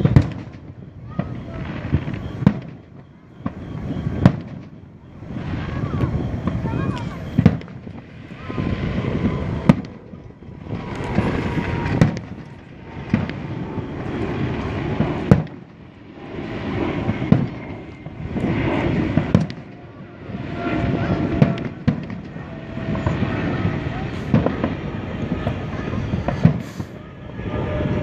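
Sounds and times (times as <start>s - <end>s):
fireworks bangs: 0.0s - 27.0s
crackling rumble of fireworks: 0.0s - 28.0s.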